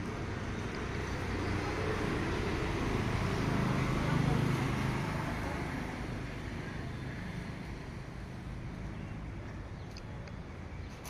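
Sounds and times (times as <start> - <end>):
vehicle engine passing by: 0.0 - 9.4
road noise: 0.0 - 11.0.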